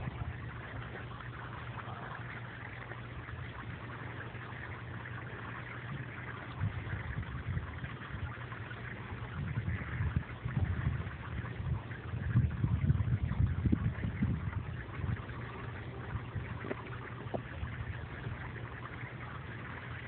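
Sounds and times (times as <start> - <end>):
irregular low rumble: 0.0 - 20.0
steady low hum: 0.0 - 20.0
water churning and splashing: 0.0 - 20.0.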